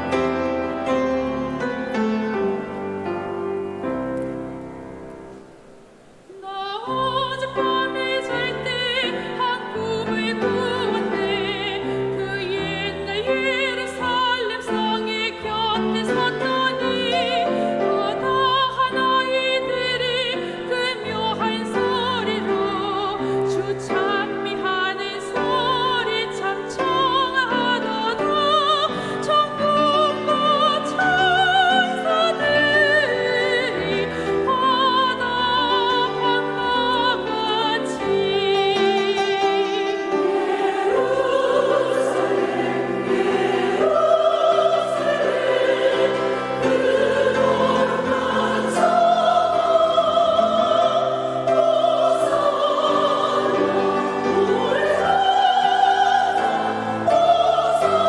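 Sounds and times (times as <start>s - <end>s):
choir singing: 0.0s - 58.0s
piano accompaniment: 0.0s - 58.0s.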